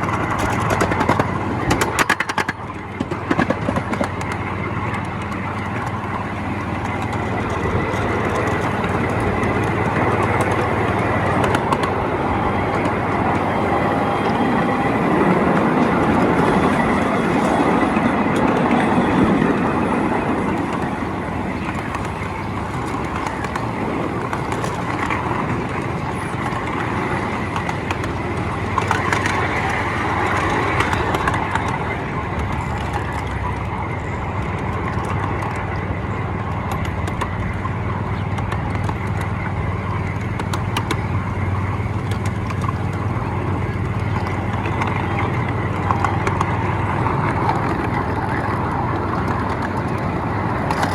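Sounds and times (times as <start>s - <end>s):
low hum: 0.0s - 50.9s
train wheels rumbling on track: 0.0s - 50.9s.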